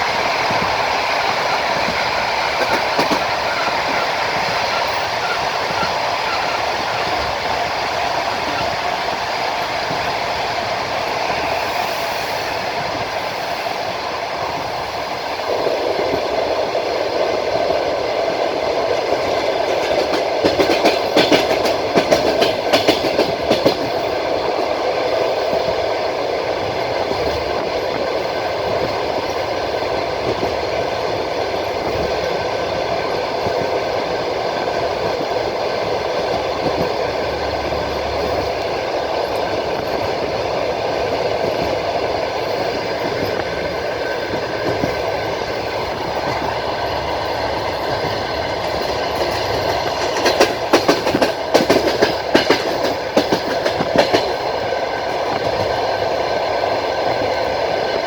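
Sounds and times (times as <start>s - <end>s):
wheel clacks over rail joints: 0.0s - 10.2s, 18.8s - 25.9s, 26.6s - 58.0s
train wheels rumbling on rails: 0.0s - 58.0s.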